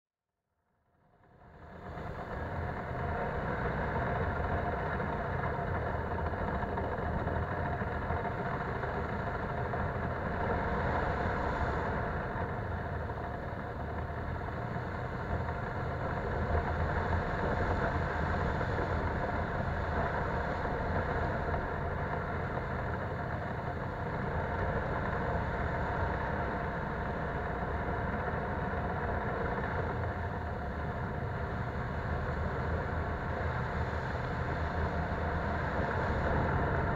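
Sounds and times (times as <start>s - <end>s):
atv engine running: 1.4s - 36.9s.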